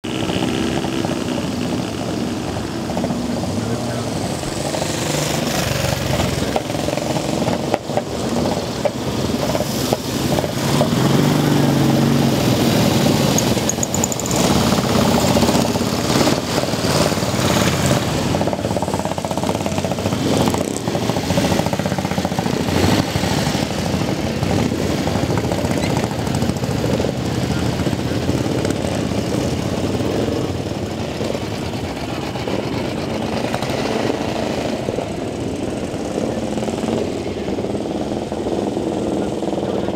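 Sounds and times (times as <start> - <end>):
motorcycle engines popping: 0.0 - 39.9.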